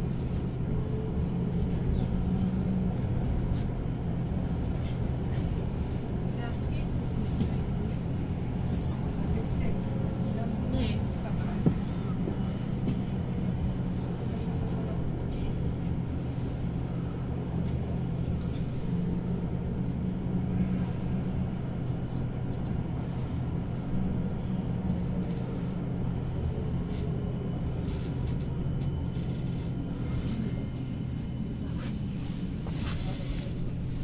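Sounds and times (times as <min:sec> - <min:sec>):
tram drive and wheels hum: 0:00.0 - 0:34.0.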